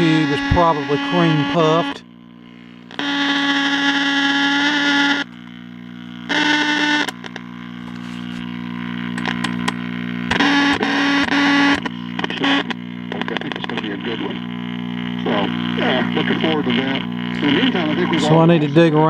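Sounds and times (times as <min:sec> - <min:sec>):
distorted crackling radio sound: 0:00.0 - 0:19.0
garbled radio broadcast: 0:00.0 - 0:19.0
radio hum: 0:00.0 - 0:19.0.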